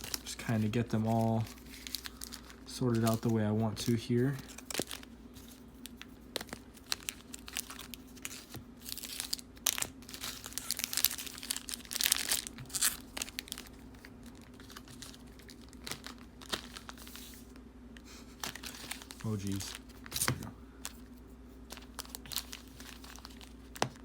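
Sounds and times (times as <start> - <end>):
foil wrappers crinkling: 0.0 - 24.0.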